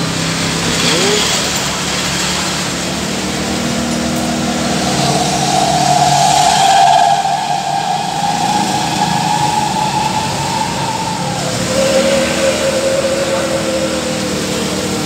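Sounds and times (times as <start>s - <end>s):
generator engine humming: 1.8s - 15.0s.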